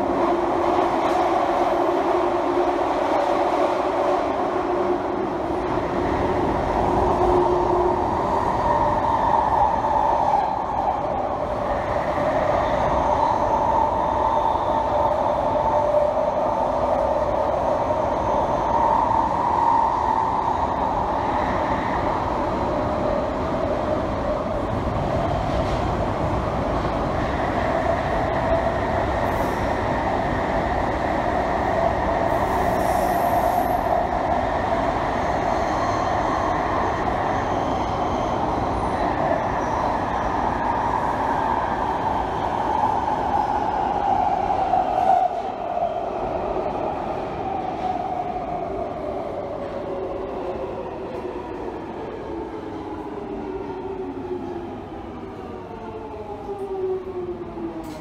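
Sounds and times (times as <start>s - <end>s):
train wheels on rail in tunnel: 0.0s - 58.0s.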